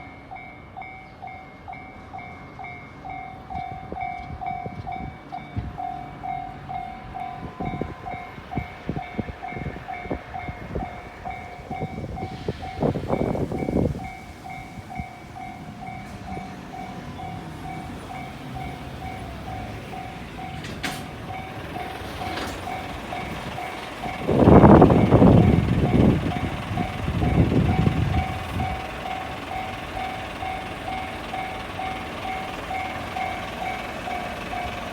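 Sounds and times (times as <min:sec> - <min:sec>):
level-crossing alarm dinging: 0:00.0 - 0:34.9.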